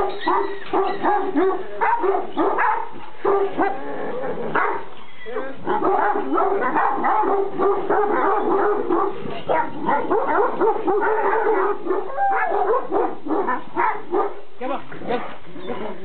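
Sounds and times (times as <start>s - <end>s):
dogs barking and yelping: 0.0s - 14.4s.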